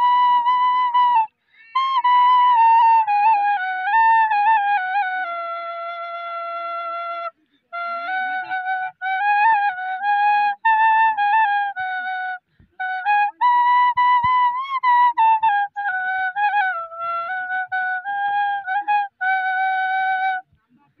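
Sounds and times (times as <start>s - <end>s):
bamboo flute melody: 0.0s - 20.5s.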